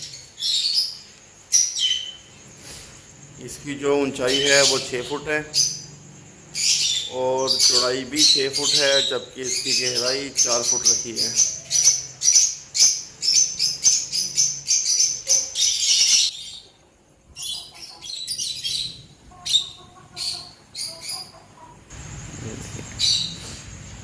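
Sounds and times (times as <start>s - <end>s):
parrots chirping: 0.0s - 23.7s.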